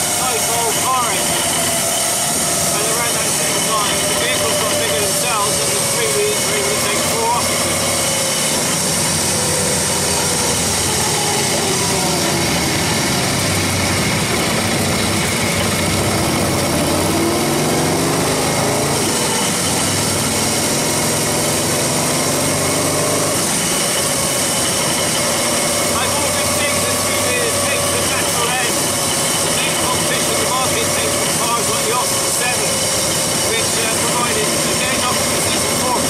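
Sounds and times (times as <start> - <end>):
v-twin engine running: 0.0 - 36.0.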